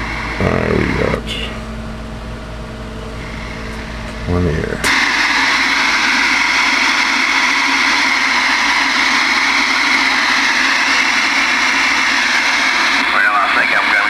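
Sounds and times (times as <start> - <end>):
radio static hiss: 0.0 - 1.7, 3.2 - 14.0.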